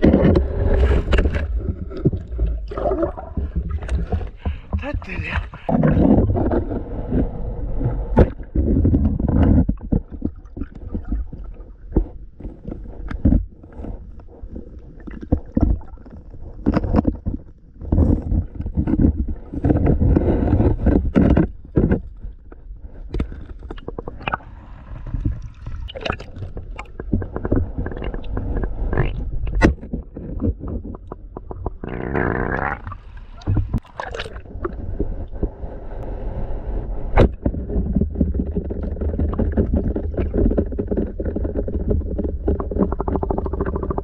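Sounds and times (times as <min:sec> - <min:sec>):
underwater clicks and knocks: 0:00.0 - 0:35.6, 0:37.2 - 0:44.0
muffled underwater river rumbling: 0:00.0 - 0:44.0.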